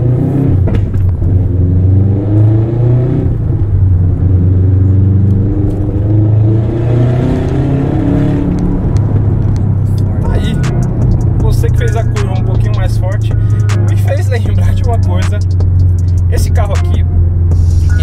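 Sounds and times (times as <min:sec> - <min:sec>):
car engine heard from inside cabin: 0:00.0 - 0:18.0.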